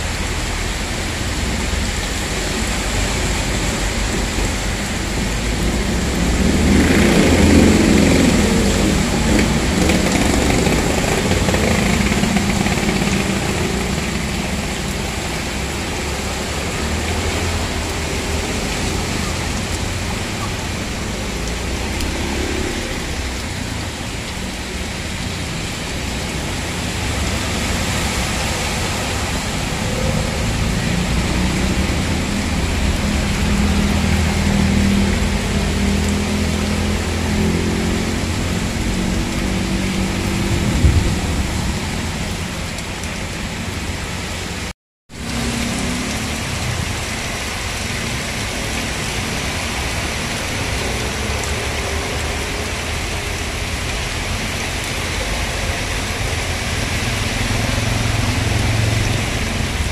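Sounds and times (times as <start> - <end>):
heavy rain hissing on road: 0.0 - 59.9
tyres splashing through water: 0.0 - 59.9
vehicle engine: 0.0 - 59.9.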